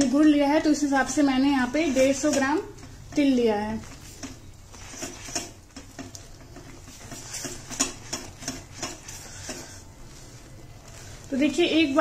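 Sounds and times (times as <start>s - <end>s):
spatula scraping sticky syrup: 0.8s - 12.0s.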